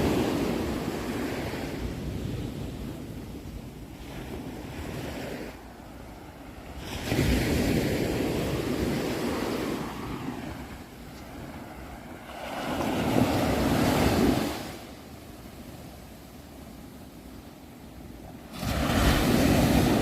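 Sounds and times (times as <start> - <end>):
sea waves breaking: 0.0 - 20.0.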